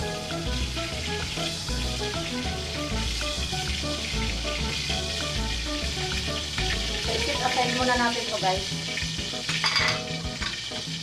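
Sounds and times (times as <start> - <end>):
background music with bass: 0.0 - 11.0
potatoes sizzling in oil: 0.0 - 11.0.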